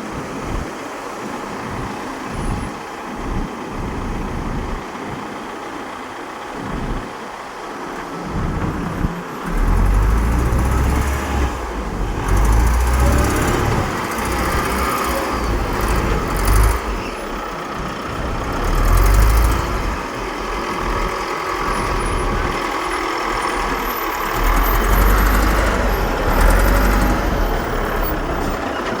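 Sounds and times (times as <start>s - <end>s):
heavy machinery diesel engines: 0.0s - 29.0s.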